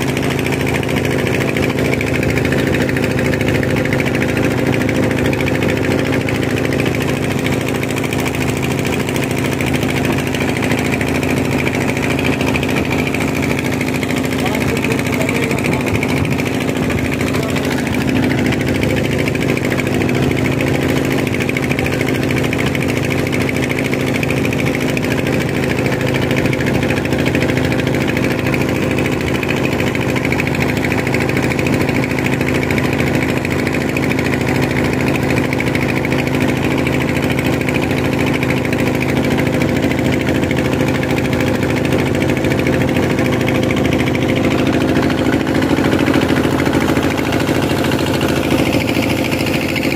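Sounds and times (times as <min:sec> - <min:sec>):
boat engine running steadily: 0:00.0 - 0:49.9.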